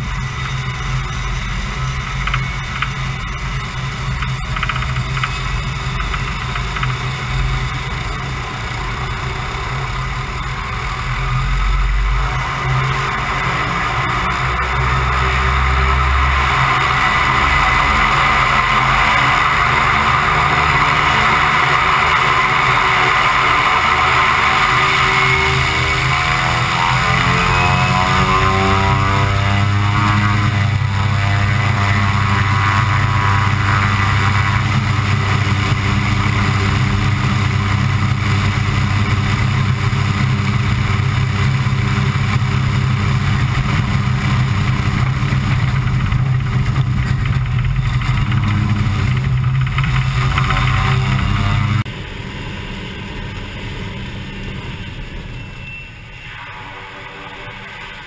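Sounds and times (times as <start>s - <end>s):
turboprop engine and propeller drone: 0.0s - 58.0s.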